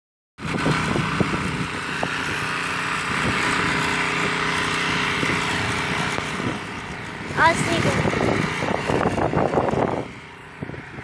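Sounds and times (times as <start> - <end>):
tiller engine running: 0.4 - 11.0.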